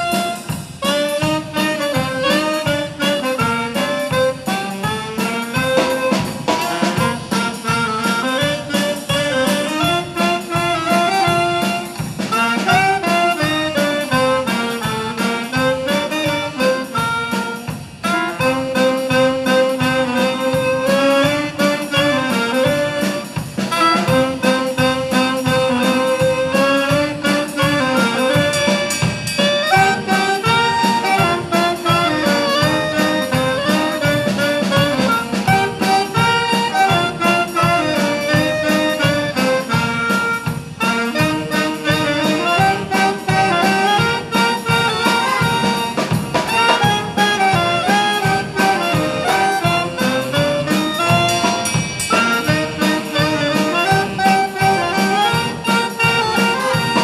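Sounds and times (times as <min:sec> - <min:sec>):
drum kit steady beat: 0:00.0 - 0:57.0
wind band playing: 0:00.0 - 0:57.0.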